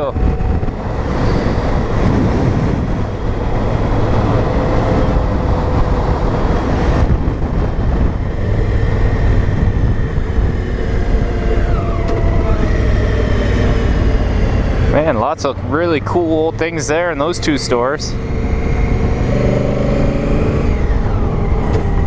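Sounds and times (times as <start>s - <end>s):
motorcycle engine cruising: 0.0s - 22.0s
road and wind noise: 0.0s - 22.0s.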